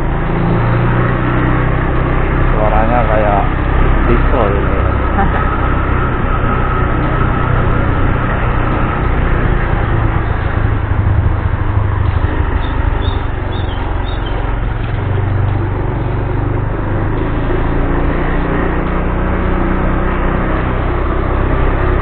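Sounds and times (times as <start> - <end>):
motor scooter engine running: 0.0 - 22.0
road and wind noise: 0.0 - 22.0.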